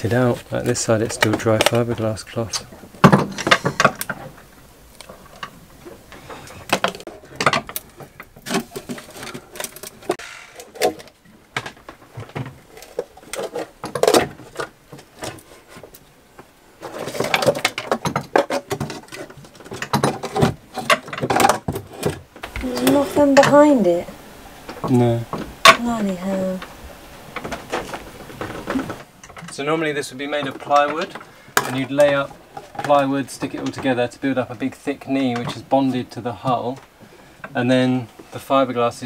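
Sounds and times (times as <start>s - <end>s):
fiberglass scraping: 0.0s - 11.2s, 16.7s - 38.5s
fiberglass cracking and crackling: 0.0s - 23.8s, 24.6s - 34.2s.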